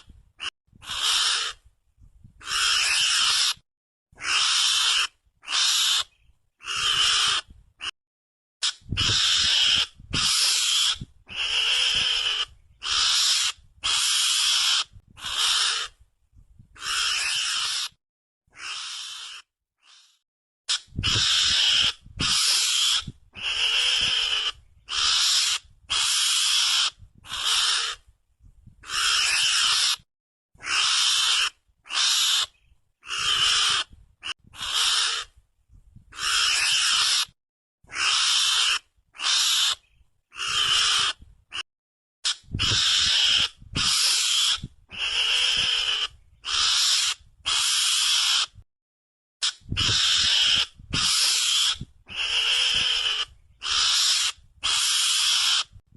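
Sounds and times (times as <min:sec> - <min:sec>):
mongoose hissy calls: 0:00.0 - 0:01.6, 0:02.4 - 0:03.6, 0:04.2 - 0:07.9, 0:08.6 - 0:16.0, 0:16.8 - 0:28.0, 0:28.8 - 0:30.0, 0:30.6 - 0:33.9, 0:34.5 - 0:35.3, 0:36.1 - 0:41.6, 0:42.2 - 0:48.6, 0:49.4 - 0:55.8.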